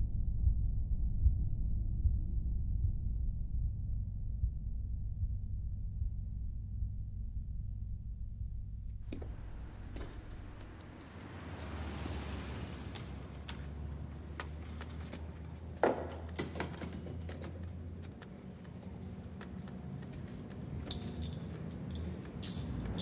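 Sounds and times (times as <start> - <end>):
low room hum: 0.0 - 11.2, 13.6 - 23.0.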